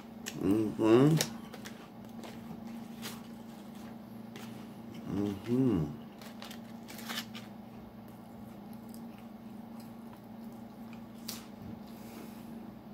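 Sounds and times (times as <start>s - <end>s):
crunching crackers: 0.0s - 12.0s.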